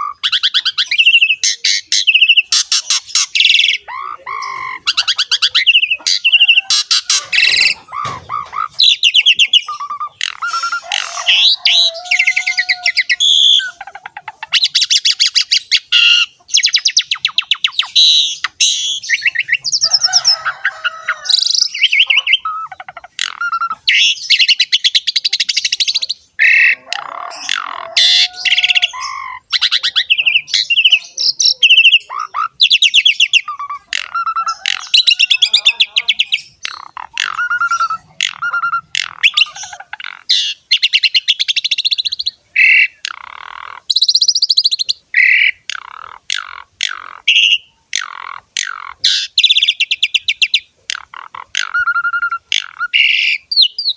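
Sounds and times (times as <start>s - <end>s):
starling singing trills and whistles: 0.0s - 53.9s.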